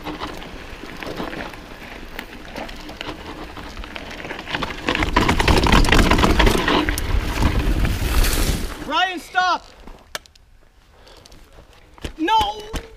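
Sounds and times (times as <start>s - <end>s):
bike rattling: 0.0s - 12.9s
bike tyres crackling on dirt: 0.0s - 12.9s.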